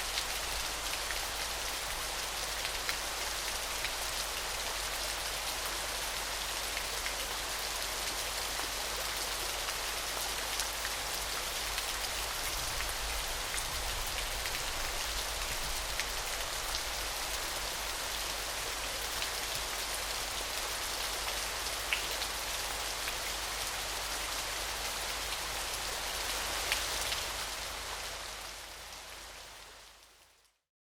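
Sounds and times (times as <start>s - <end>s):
small waterfall splashing: 0.0s - 30.2s.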